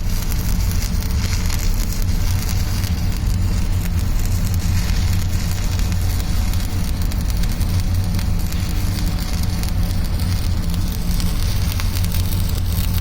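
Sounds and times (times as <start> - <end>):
welding arc crackling: 0.0 - 13.0
welding machine hum: 0.0 - 13.0.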